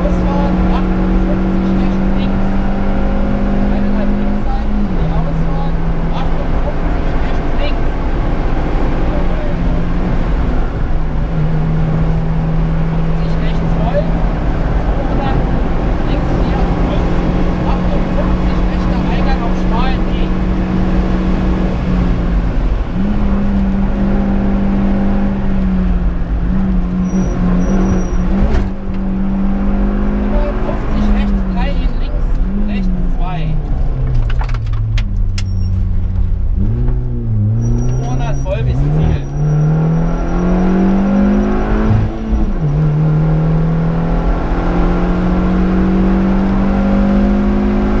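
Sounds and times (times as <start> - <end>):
car engine at high revs: 0.0 - 48.0.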